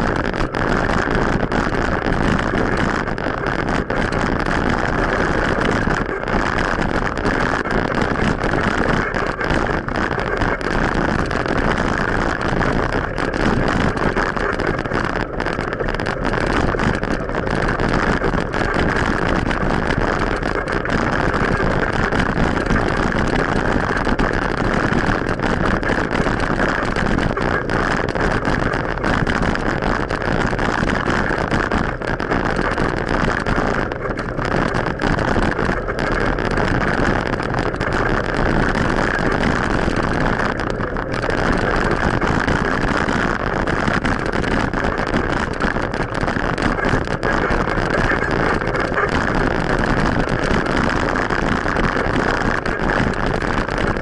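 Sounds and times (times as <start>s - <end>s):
bicycle tyre road noise: 0.0s - 54.0s.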